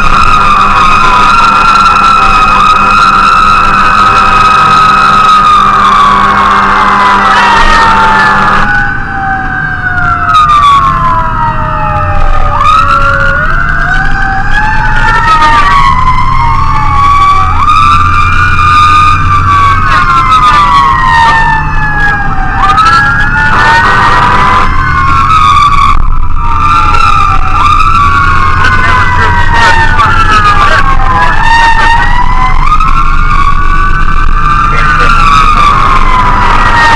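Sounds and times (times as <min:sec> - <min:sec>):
fire engine siren wailing: 0:00.0 - 0:36.9.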